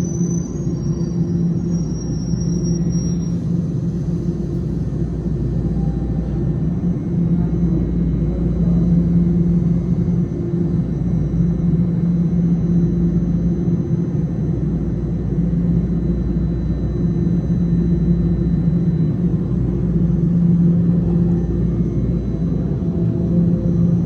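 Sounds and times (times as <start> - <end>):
constant low hum: 0.0 - 24.0
subway train rumbling: 0.0 - 24.0.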